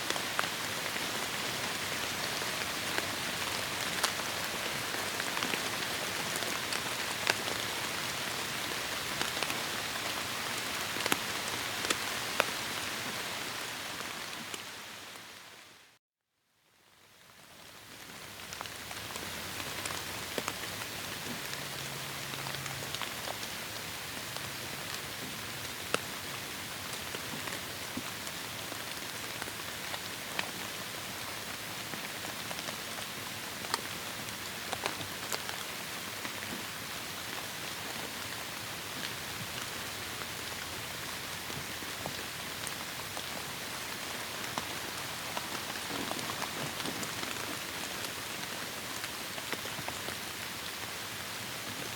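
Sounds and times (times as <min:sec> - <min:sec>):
heavy rain on foliage: 0:00.0 - 0:16.0, 0:16.8 - 0:51.9.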